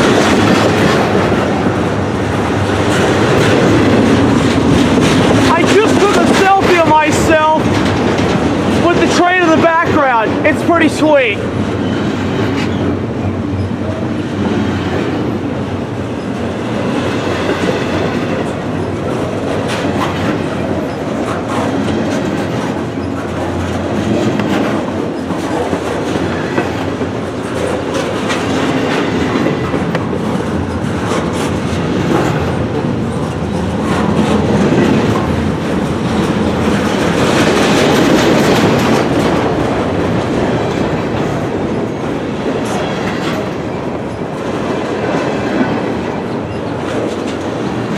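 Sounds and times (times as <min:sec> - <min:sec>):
freight train rumbling past: 0:00.0 - 0:47.9
wheels clacking over rail joints: 0:00.0 - 0:47.9.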